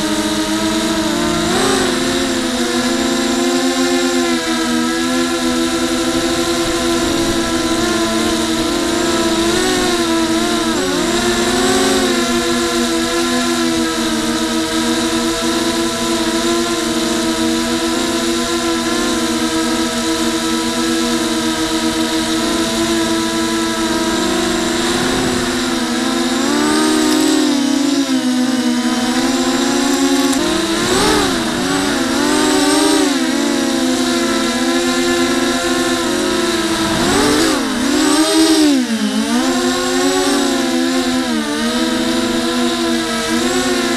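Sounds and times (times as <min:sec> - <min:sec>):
drone motors whining: 0:00.0 - 0:43.9.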